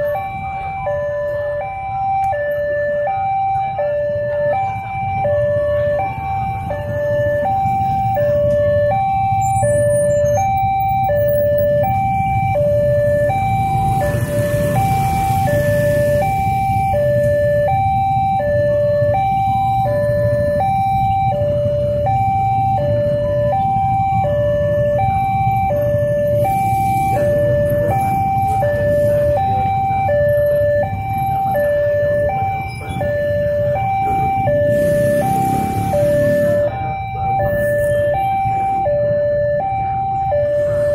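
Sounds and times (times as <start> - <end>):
low rumble of traffic: 0.0 - 40.9
two-tone crossing alarm: 0.0 - 40.9.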